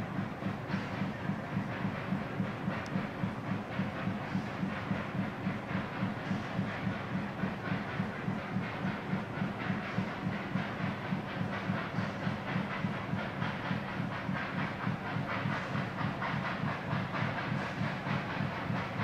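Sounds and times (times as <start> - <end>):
steam hiss: 0.0 - 19.0
steam train rhythmic chugging: 0.0 - 19.0.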